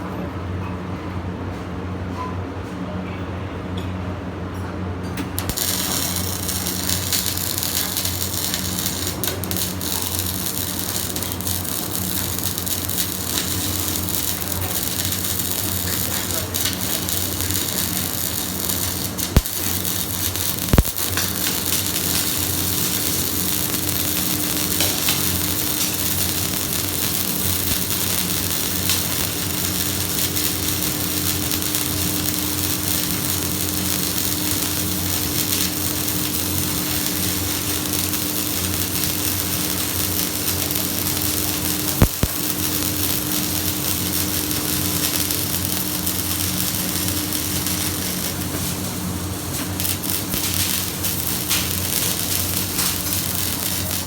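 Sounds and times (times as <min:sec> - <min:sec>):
welding arc hissing: 0:05.4 - 0:54.0.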